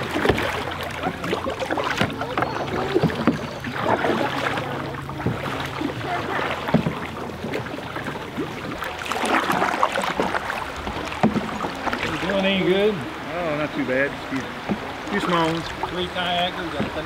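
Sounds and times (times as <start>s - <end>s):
canoe paddles splashing: 0.0s - 17.0s
water lapping and dripping: 0.0s - 17.0s.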